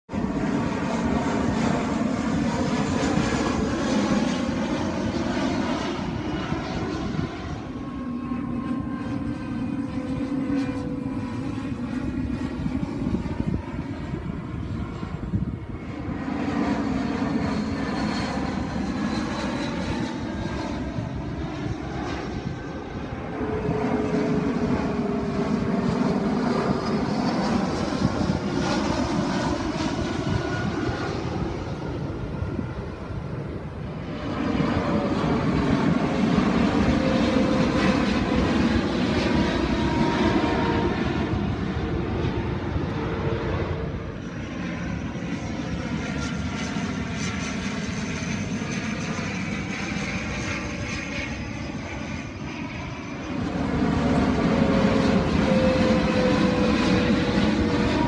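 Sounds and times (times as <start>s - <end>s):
airplane engines rumbling: 0.0s - 58.0s.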